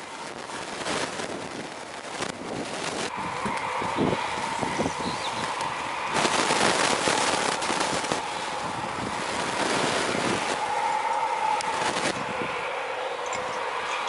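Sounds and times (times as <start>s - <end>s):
crackling jet noise: 0.0s - 14.0s
jet engine high whine: 0.0s - 14.0s.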